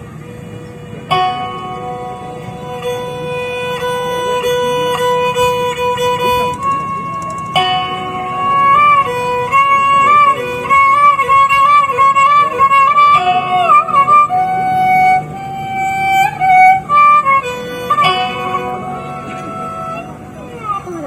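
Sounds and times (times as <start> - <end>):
bowed fiddle melody: 0.0 - 21.0.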